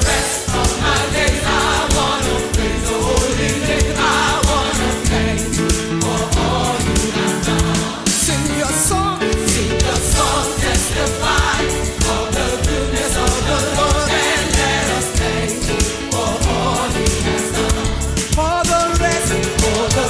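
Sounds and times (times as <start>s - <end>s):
choir singing: 0.0s - 20.0s
instrumental backing with beat: 0.0s - 20.0s.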